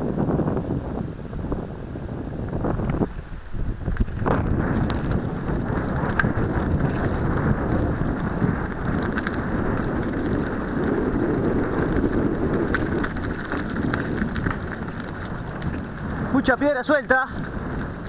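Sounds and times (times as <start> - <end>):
bike tyres rattling over gravel: 0.0 - 18.0
wind noise on microphone: 0.0 - 18.0.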